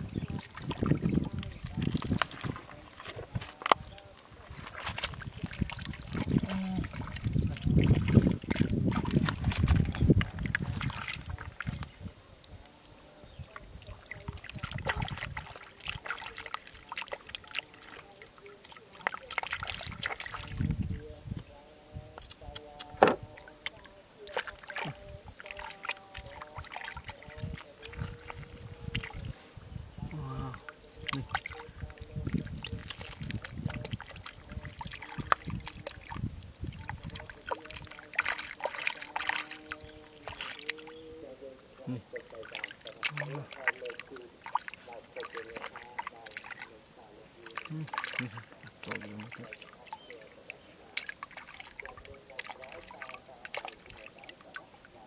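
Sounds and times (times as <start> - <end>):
hands squelching in wet mud: 0.0 - 12.0, 13.6 - 20.9, 22.2 - 29.4, 30.0 - 55.0
small water splashes and drips: 0.0 - 55.0.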